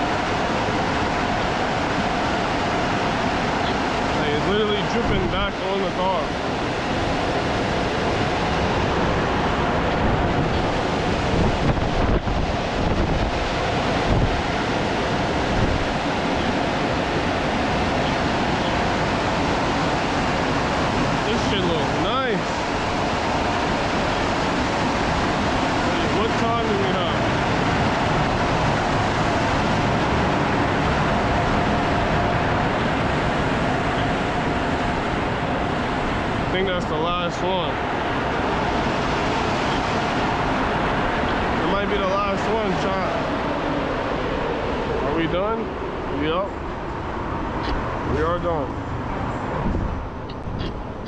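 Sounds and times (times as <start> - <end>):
faint steady whine: 0.0 - 51.0
rushing air and water: 0.0 - 51.0.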